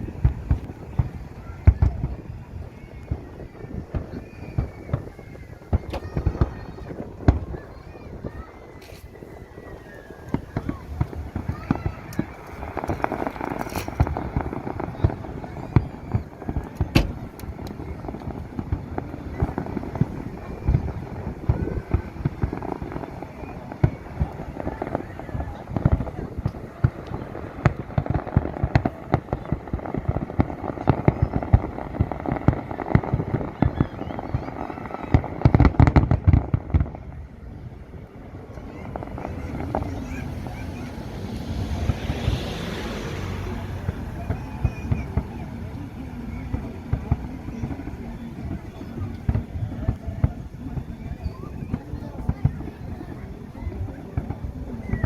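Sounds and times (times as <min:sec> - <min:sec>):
fireworks booming: 0:00.0 - 0:55.0
fireworks crackling: 0:00.0 - 0:55.0.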